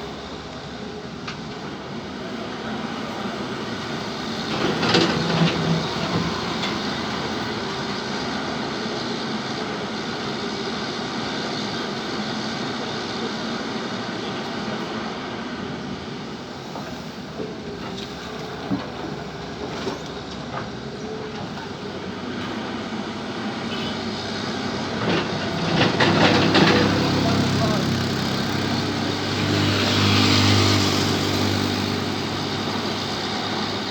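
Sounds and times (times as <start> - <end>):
excavator engine running: 0.0 - 9.9, 16.2 - 33.9.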